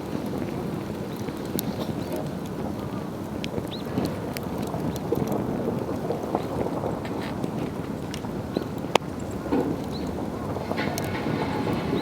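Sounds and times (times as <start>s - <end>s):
campfire low rushing: 0.0s - 12.0s
fire crackles: 0.0s - 12.0s.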